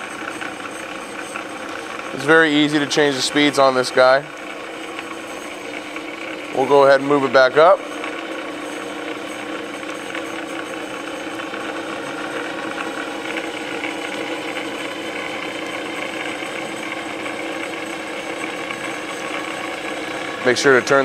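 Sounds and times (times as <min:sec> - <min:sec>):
lathe running: 0:00.0 - 0:21.0.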